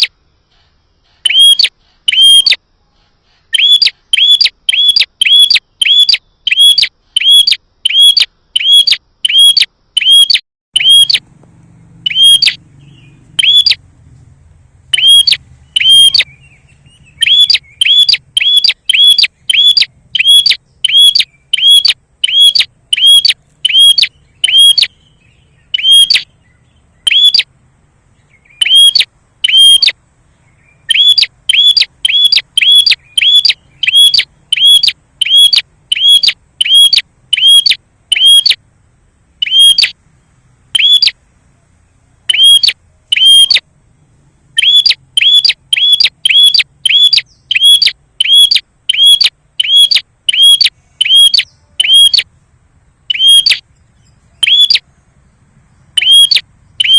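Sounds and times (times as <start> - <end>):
bird chirping: 0.0 - 38.7, 39.3 - 43.7, 44.4 - 56.9.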